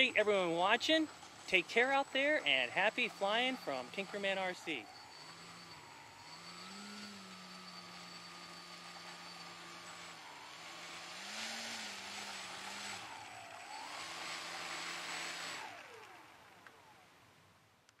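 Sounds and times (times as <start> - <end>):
model airplane motor and propeller: 0.0 - 18.0.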